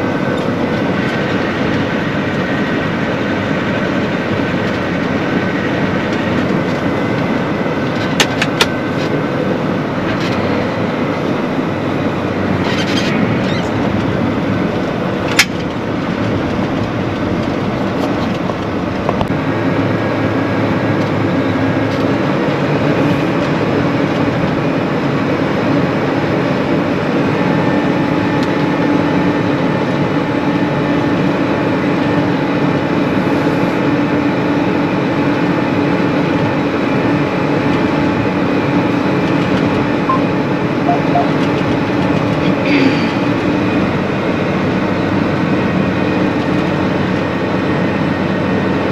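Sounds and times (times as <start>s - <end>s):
combine harvester droning: 0.0s - 48.9s.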